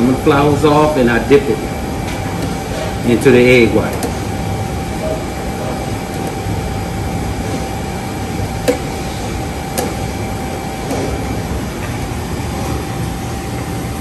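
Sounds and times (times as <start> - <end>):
kitchen mechanical hum: 0.0 - 14.0.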